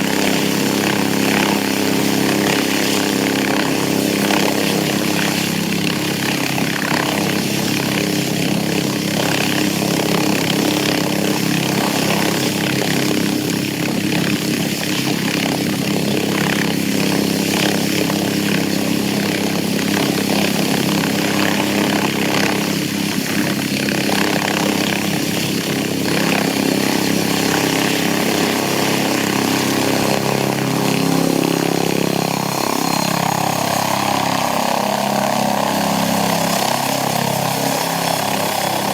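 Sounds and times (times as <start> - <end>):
helicopter rotors droning: 0.0 - 38.9.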